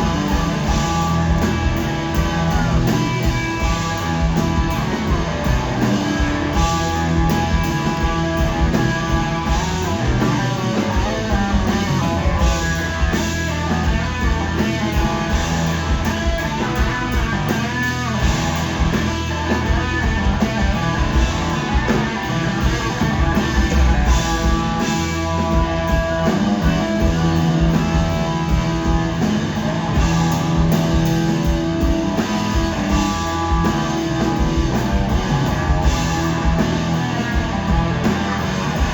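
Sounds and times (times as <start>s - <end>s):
drums: 0.0s - 38.9s
electric guitar: 0.0s - 38.9s.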